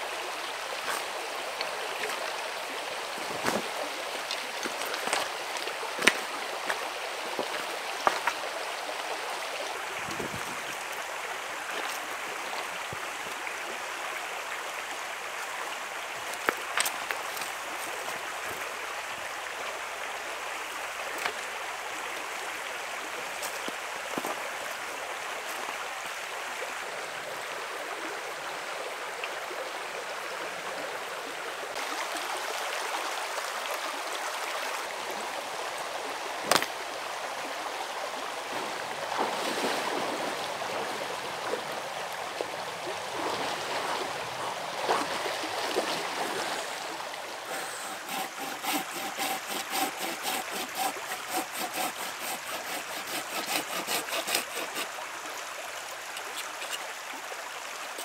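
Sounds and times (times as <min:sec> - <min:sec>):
river flowing over pebbles: 0:00.0 - 0:58.0.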